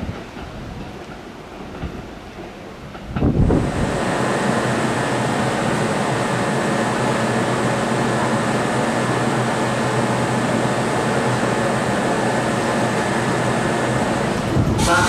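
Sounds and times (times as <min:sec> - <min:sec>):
train equipment fan noise: 0:02.7 - 0:15.0.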